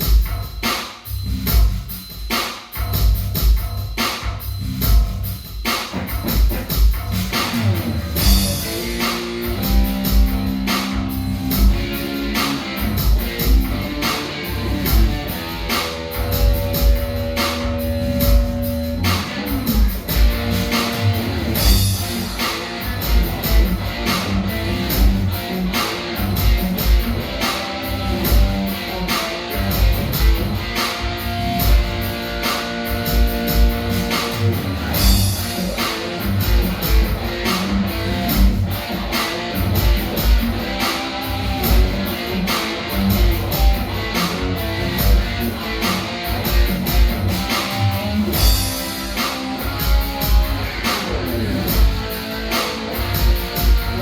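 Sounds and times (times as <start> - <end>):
live rock band playing: 5.6 - 54.0.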